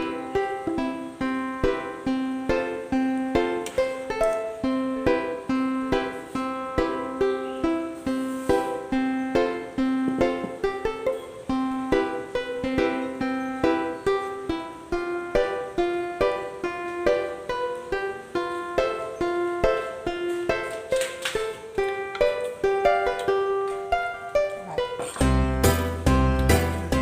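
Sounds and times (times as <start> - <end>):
plucked ukulele melody: 0.0 - 27.0.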